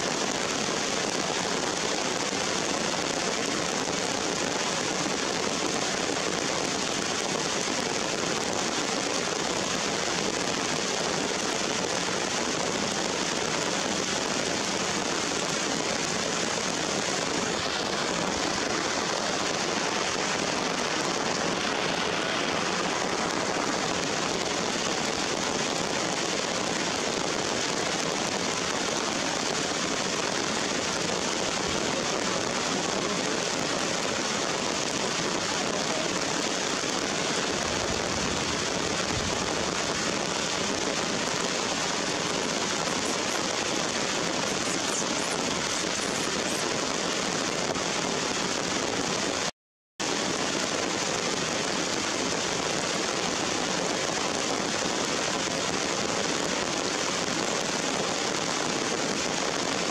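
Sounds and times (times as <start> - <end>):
rain on rocks and leaves: 0.0 - 59.9.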